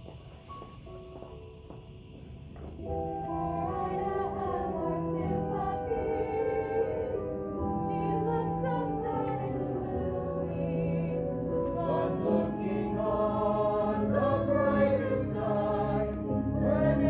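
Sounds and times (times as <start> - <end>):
operatic singing voices: 3.1 - 17.0.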